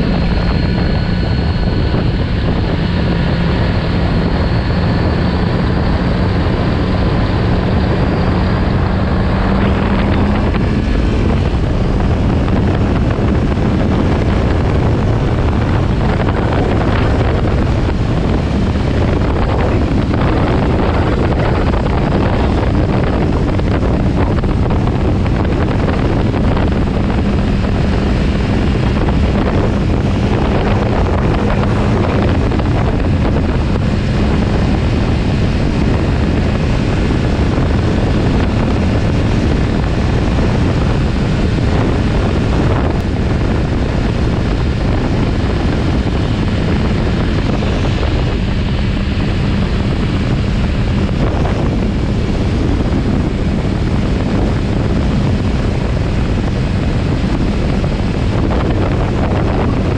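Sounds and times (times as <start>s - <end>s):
motorcycle engine humming: 0.0s - 59.9s
wind rush on microphone: 0.0s - 59.9s.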